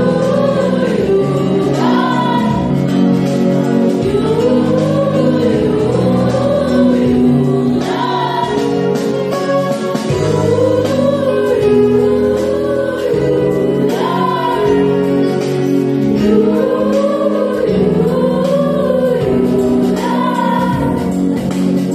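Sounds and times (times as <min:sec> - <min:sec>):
children's choir singing: 0:00.0 - 0:21.9
electronic keyboard chords: 0:00.0 - 0:21.9.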